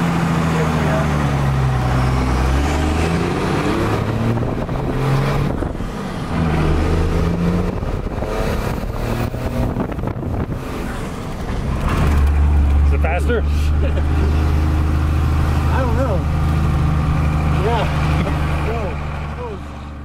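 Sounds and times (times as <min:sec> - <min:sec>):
diesel engine accelerating: 0:00.0 - 0:20.0.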